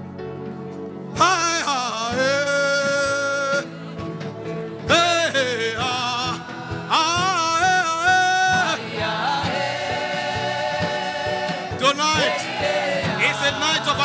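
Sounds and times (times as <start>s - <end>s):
person singing with vibrato: 1.2s - 14.0s.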